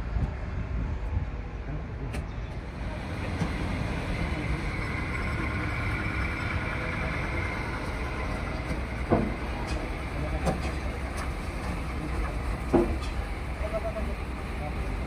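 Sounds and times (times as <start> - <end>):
faint whine: 0.0 - 15.0
truck engine running: 2.6 - 15.0.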